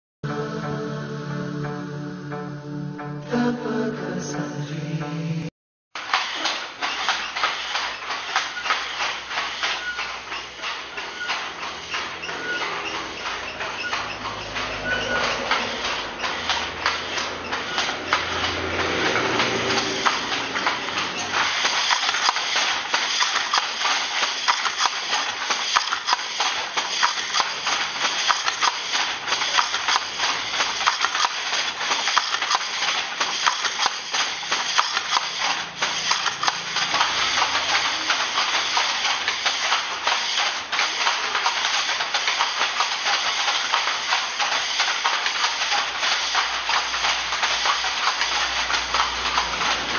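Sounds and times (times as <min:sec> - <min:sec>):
handlooms clattering: 0:05.9 - 0:49.9.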